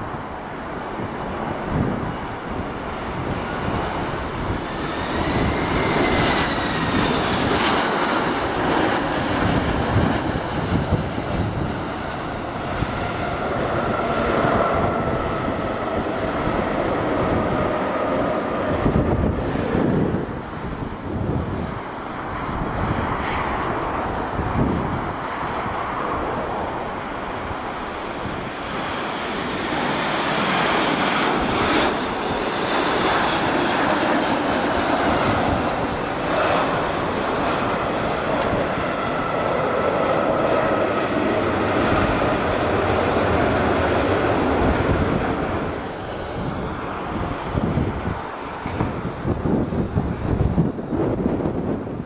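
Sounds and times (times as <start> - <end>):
jet engines roaring and whining: 0.0 - 52.0.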